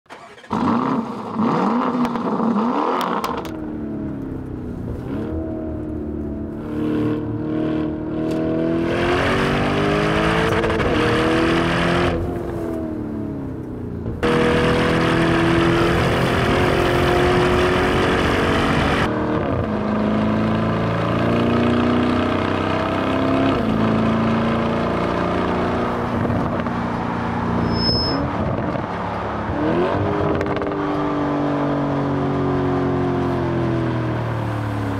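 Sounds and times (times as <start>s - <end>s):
car engine revving and accelerating: 0.3s - 4.0s, 4.9s - 13.5s, 14.2s - 34.9s.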